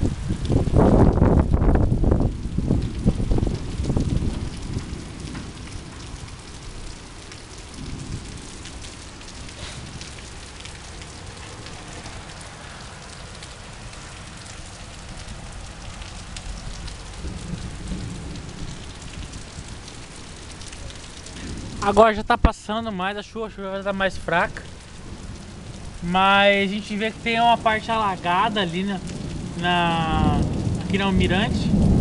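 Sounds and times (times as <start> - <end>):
heavy rain pattering: 0.0 - 32.0.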